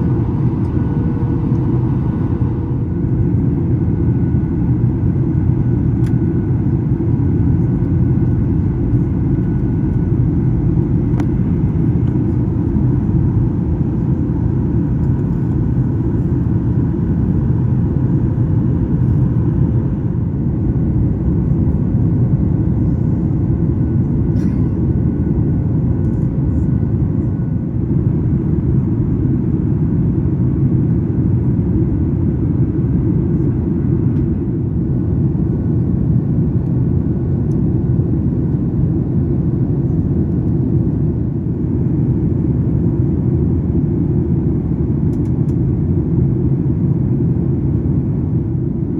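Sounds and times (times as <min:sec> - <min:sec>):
airplane cabin drone in flight: 0:00.0 - 0:48.9.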